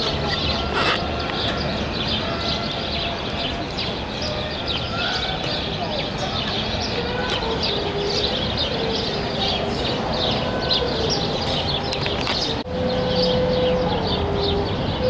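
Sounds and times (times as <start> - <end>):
birds chirping: 0.0 - 15.0
street ambience: 0.0 - 15.0.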